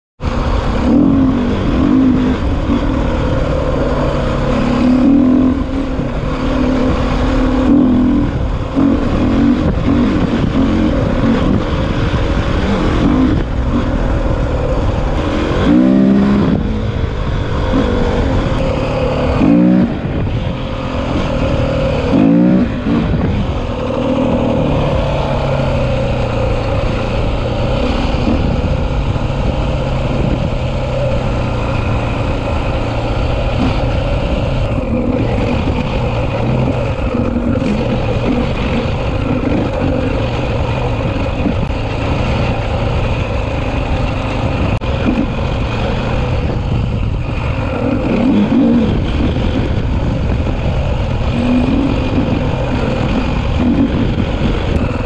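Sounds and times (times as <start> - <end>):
dirt bike engine revving: 0.2 - 55.0
wind noise on microphone: 0.2 - 55.0.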